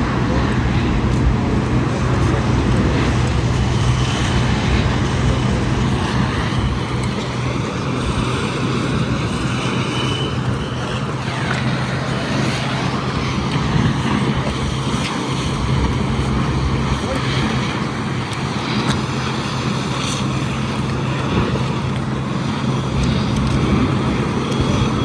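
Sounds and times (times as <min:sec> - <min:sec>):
low engine hum: 0:00.0 - 0:25.0
road noise rushing: 0:00.0 - 0:25.0.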